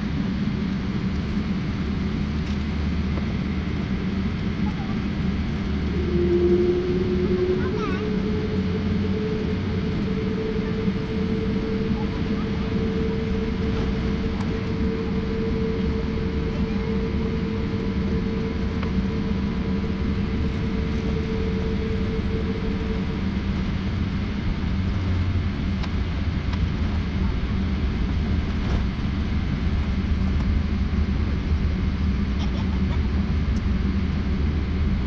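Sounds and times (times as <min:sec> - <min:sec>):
held hum: 0:00.0 - 0:35.0
jet cabin engine drone: 0:00.0 - 0:35.0.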